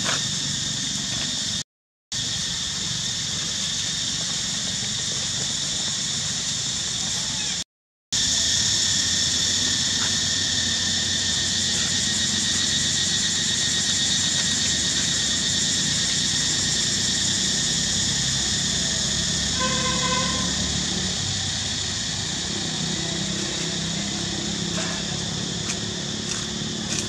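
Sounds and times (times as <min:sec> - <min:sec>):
high-pitched insect drone: 0:00.0 - 0:01.6, 0:02.2 - 0:07.6, 0:08.2 - 0:27.0.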